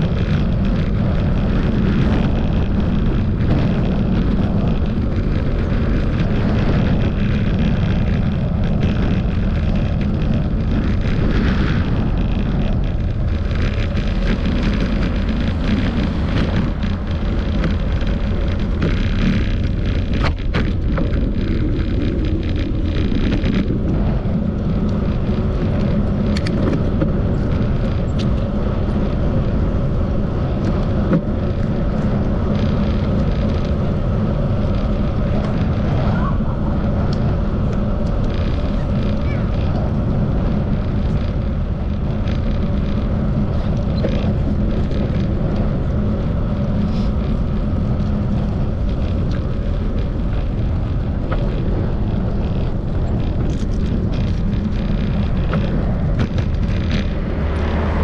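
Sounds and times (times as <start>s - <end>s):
bicycle ride rumble: 0.0s - 58.0s
wind buffeting microphone: 0.0s - 58.0s.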